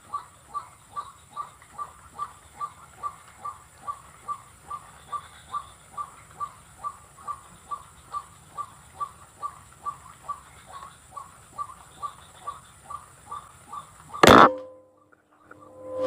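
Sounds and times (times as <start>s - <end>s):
waterhen calling: 0.0s - 14.5s.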